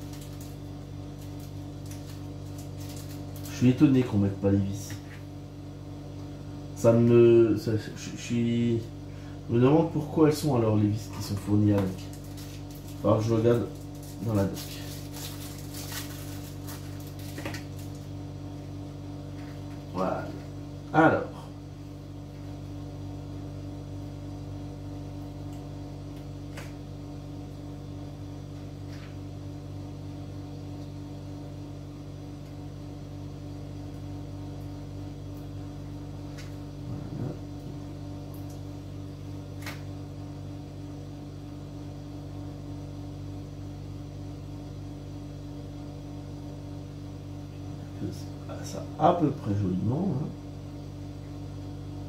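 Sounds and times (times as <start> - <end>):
steady electrical hum: 0.0 - 52.0.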